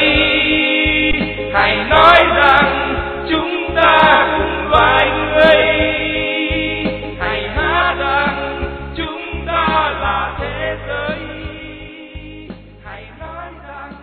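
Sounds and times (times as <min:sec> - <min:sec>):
instrumental accompaniment: 0:00.0 - 0:13.0
chorus singing: 0:00.0 - 0:14.0.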